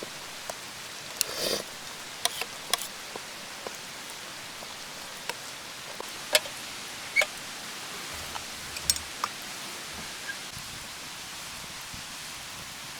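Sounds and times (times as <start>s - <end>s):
campfire crackling: 0.0s - 10.6s.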